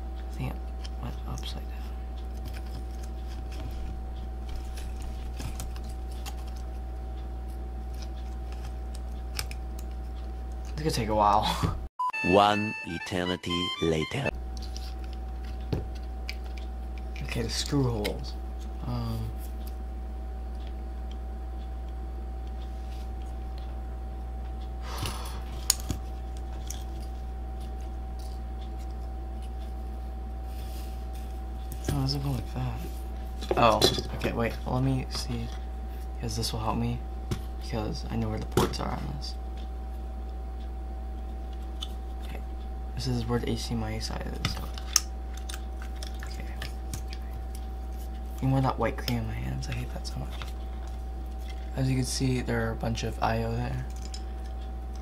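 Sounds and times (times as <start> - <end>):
faint constant whine: 0.0 - 55.0
low electrical hum: 0.0 - 55.0.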